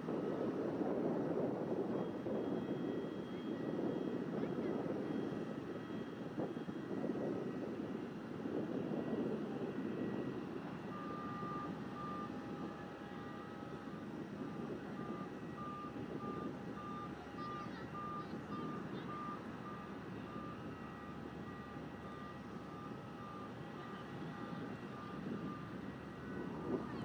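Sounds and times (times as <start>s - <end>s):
reversing alarm beeping: 0.1s - 27.0s.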